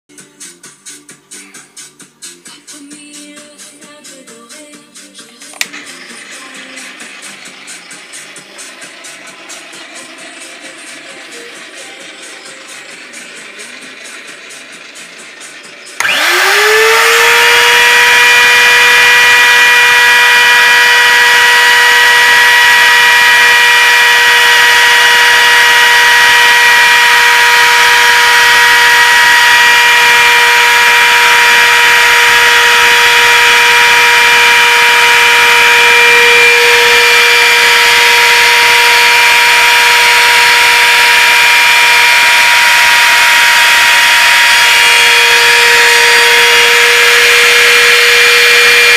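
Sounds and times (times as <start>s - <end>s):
router bit cutting wood: 5.5s - 48.9s
router motor high-pitched whine: 5.5s - 48.9s.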